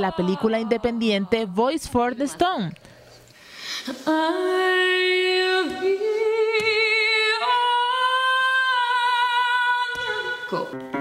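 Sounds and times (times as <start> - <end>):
woman singing unaccompanied: 0.0 - 2.5, 4.0 - 10.7.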